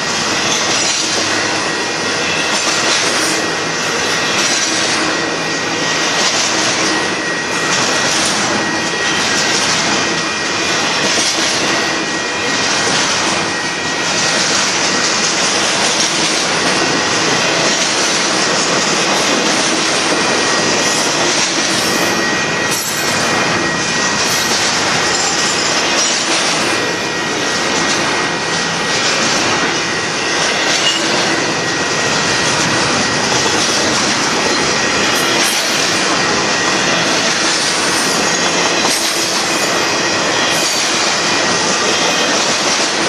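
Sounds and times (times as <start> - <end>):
train wheels rushing on rails: 0.0 - 43.0.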